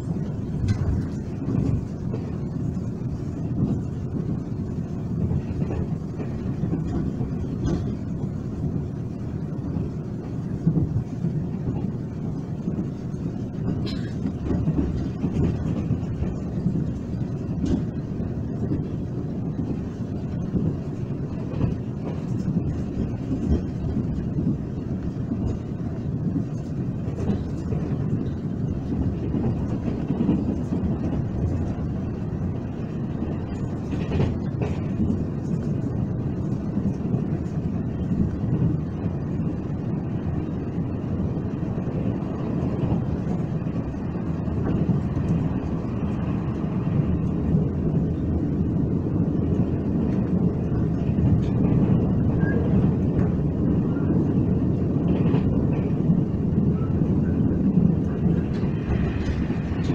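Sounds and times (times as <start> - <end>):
train rumble and rail noise: 0.0 - 59.9.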